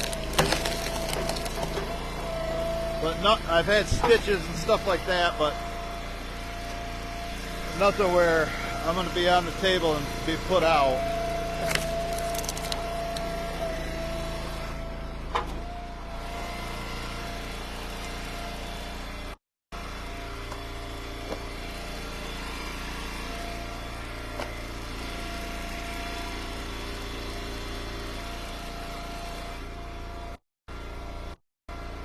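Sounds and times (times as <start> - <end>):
log splitter engine running: 0.0 - 32.0.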